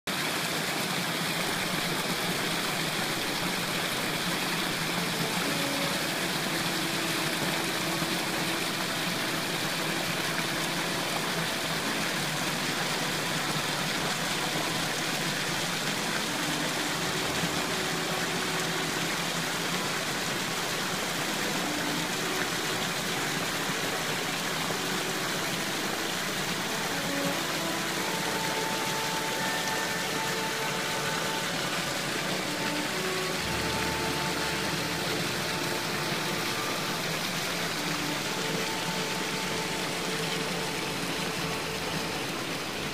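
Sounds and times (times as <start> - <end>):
stream pouring over rocks: 0.1 - 42.9.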